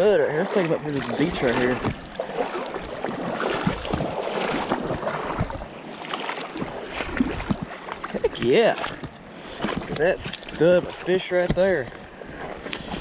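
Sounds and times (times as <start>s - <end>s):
wading through shallow water: 0.0s - 13.0s.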